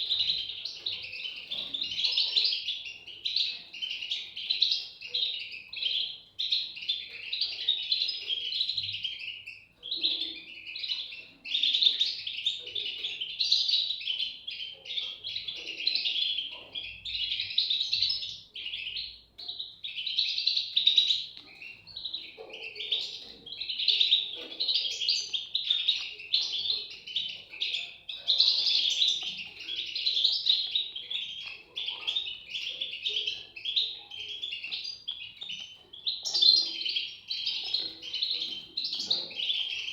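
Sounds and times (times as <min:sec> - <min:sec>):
chicks chirping: 0:00.0 - 0:39.9.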